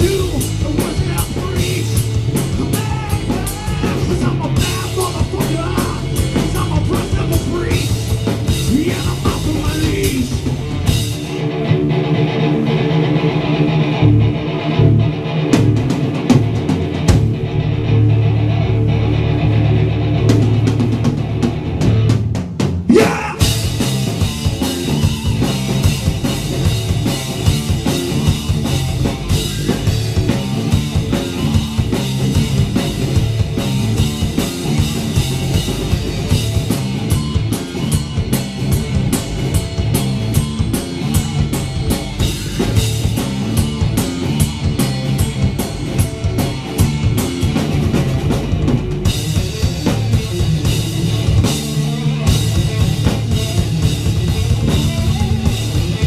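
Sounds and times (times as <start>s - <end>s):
bass guitar: 0.0s - 56.0s
distorted electric guitar: 0.0s - 56.0s
drum kit: 0.0s - 56.0s.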